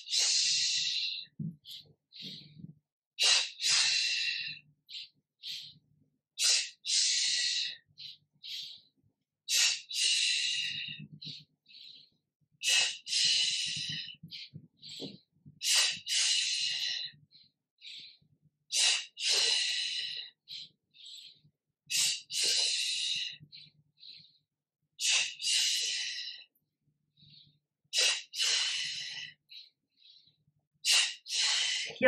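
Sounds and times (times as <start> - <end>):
woman breathing sharply: 0.0 - 2.6, 3.2 - 5.8, 6.4 - 8.9, 9.5 - 24.4, 27.2 - 32.0.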